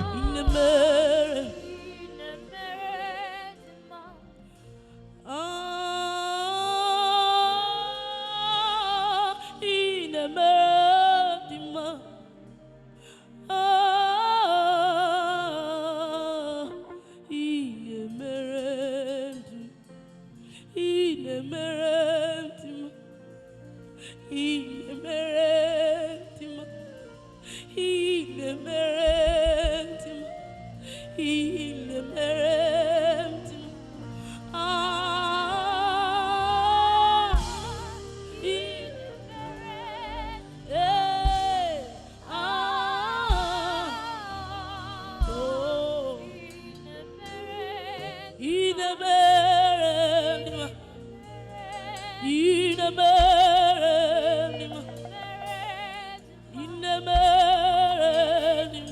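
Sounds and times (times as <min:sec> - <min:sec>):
person singing gospel song: 0:00.0 - 0:58.9.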